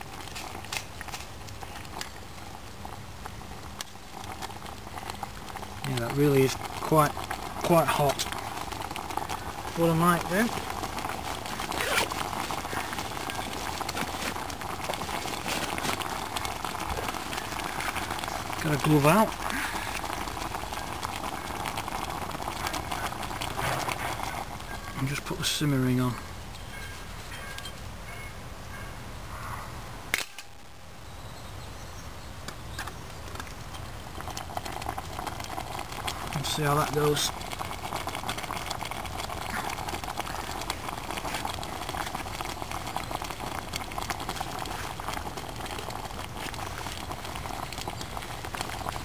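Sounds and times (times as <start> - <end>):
soup boiling with bubbling pops: 0.0 - 28.3, 32.4 - 49.0.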